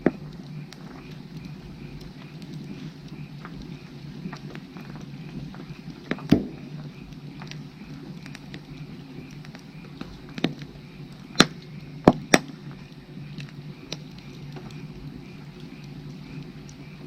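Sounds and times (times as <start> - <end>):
firewood crackling and popping: 0.0 - 17.0
frogs calling: 0.0 - 17.0.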